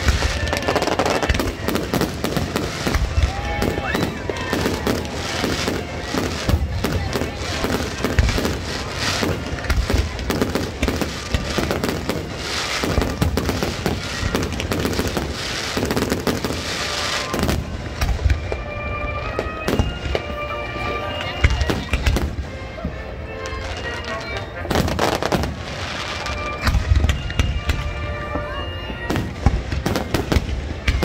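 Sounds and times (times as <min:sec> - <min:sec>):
firework crackle: 0:00.0 - 0:20.6, 0:23.6 - 0:31.0.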